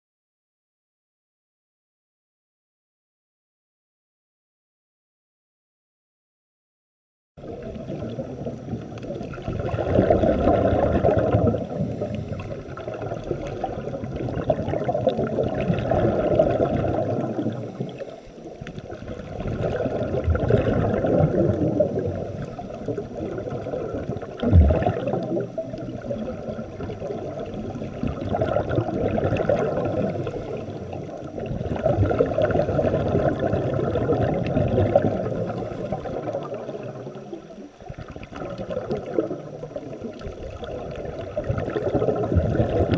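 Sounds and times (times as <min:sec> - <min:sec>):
underwater bubbling of exhaled air: 0:07.4 - 0:42.9.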